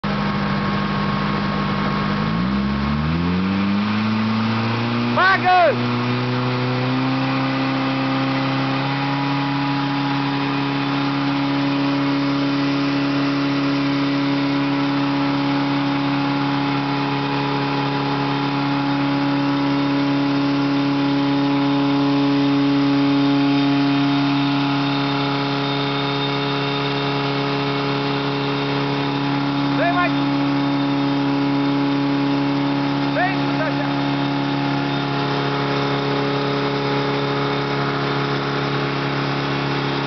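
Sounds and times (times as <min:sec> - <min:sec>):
water pump engine running: 0:00.0 - 0:40.0
water jet from hose: 0:03.2 - 0:40.0.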